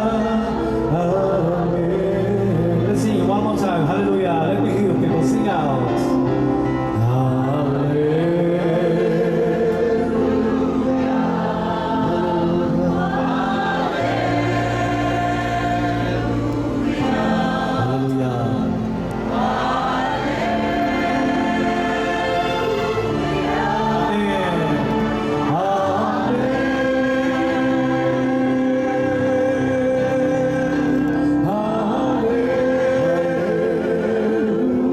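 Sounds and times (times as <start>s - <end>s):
group singing worship song: 0.0s - 34.9s.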